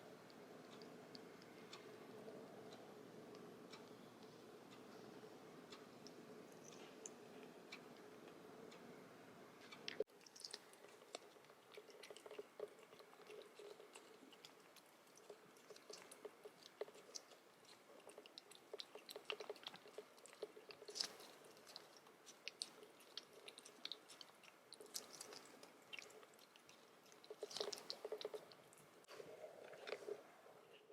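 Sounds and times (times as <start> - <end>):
kitten chewing: 0.0 - 8.5, 9.7 - 30.9.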